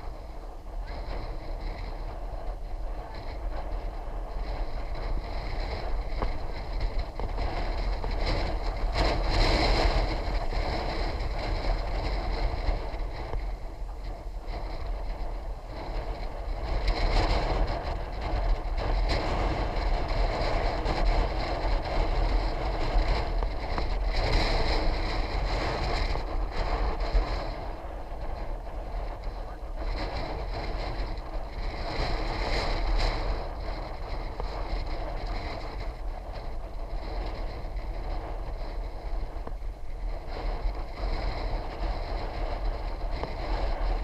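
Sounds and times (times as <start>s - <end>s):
bicycle road noise: 0.0s - 44.0s
wind rumbling across microphone: 0.0s - 44.0s.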